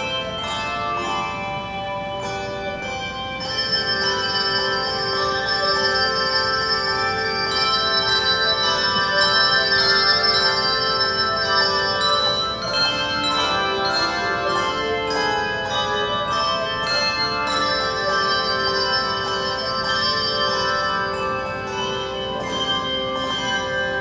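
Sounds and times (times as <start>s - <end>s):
handbell choir ringing: 0.0s - 24.0s.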